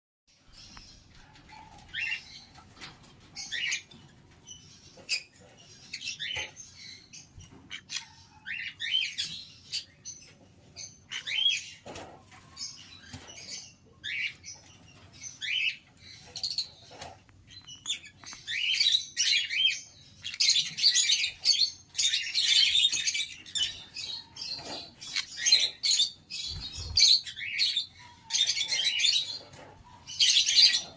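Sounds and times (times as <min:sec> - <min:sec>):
parrot chirping and squawking: 0:03.4 - 0:10.2, 0:10.8 - 0:11.8, 0:13.4 - 0:30.9.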